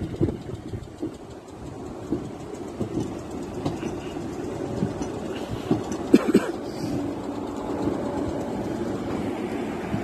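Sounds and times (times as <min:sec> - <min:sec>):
train rumbling: 0:00.0 - 0:10.0
train wheel clacks: 0:00.0 - 0:10.0.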